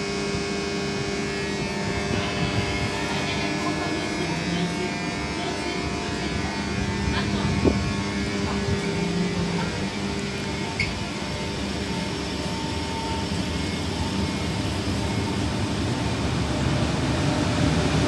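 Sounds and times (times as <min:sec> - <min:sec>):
train electrical hum and whir: 0:00.0 - 0:18.0.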